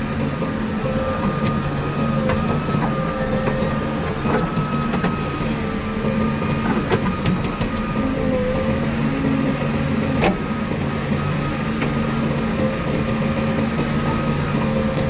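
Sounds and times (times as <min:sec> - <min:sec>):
diesel machinery running: 0:00.0 - 0:15.0
high machine whine: 0:00.0 - 0:15.0.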